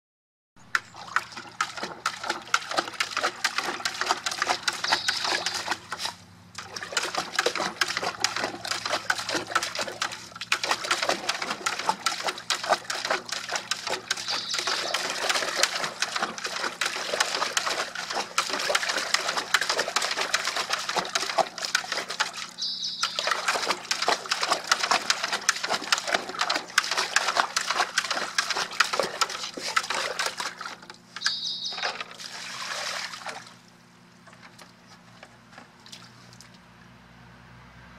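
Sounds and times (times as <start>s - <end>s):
dog splashing in water bucket: 0.8s - 36.5s.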